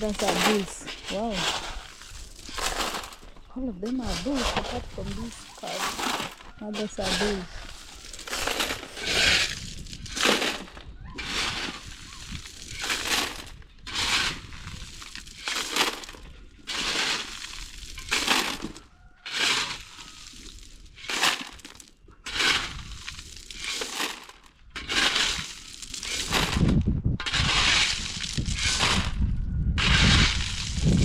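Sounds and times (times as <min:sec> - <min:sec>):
shovel scraping through gravel: 0:00.0 - 0:29.2, 0:29.8 - 0:31.0.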